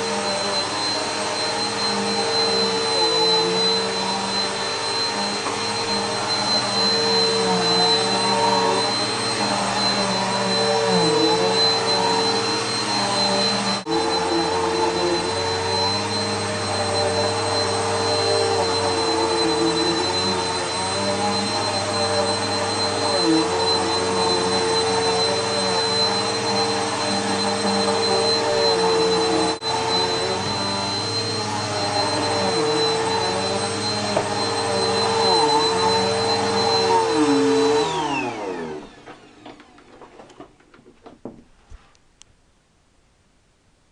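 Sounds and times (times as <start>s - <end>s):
vacuum cleaner motor whining: 0.0s - 41.2s.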